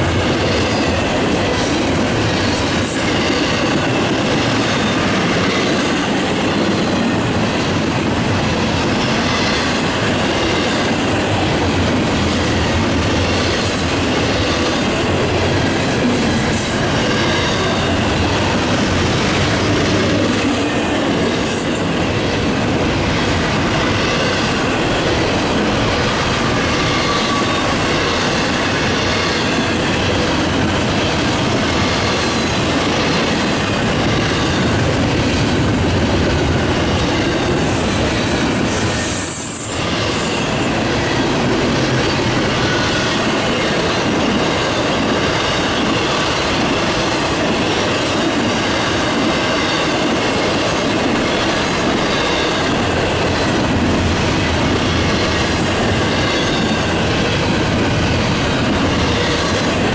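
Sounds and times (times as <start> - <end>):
clickety-clack over rail joints: 0.0 - 59.9
train wheels on rails: 0.0 - 59.9.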